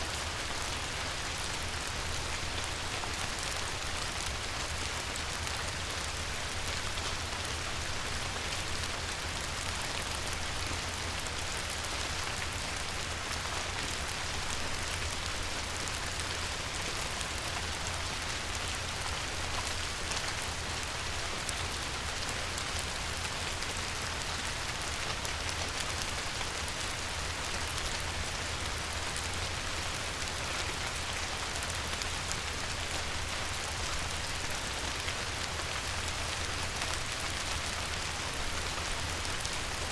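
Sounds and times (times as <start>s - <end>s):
light rain on river: 0.0s - 39.9s.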